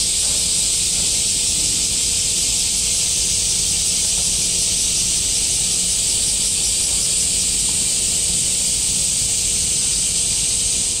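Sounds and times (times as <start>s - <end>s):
cicadas chorus: 0.0s - 11.0s.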